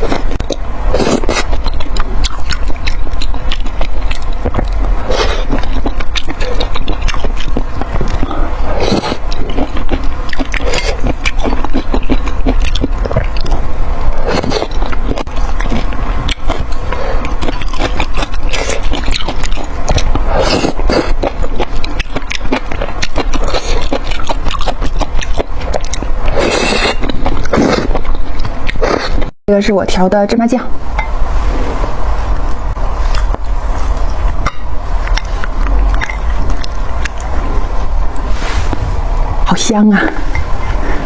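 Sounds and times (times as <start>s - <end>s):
wet eating clicks and scrapes: 0.0s - 29.3s, 32.3s - 38.9s.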